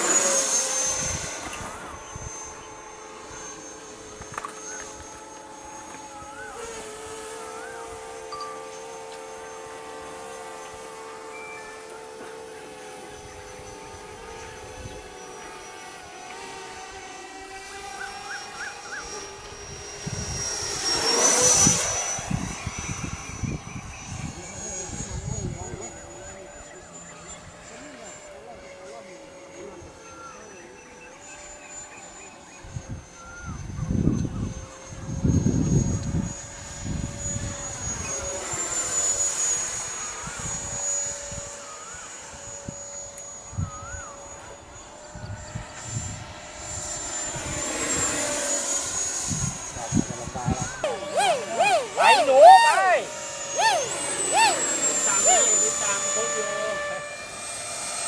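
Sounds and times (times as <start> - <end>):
electric ducted fan jet whining: 0.0 - 28.2, 32.7 - 58.0.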